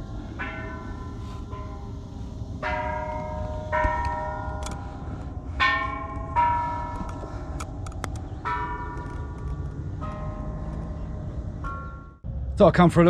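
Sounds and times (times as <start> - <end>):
temple bells ringing: 0.0 - 12.3
low rumble: 0.0 - 13.0.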